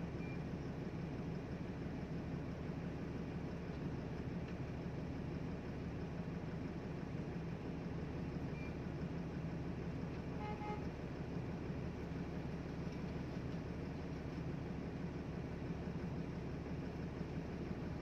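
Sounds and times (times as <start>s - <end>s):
diesel machinery engine rumble: 0.0s - 18.0s.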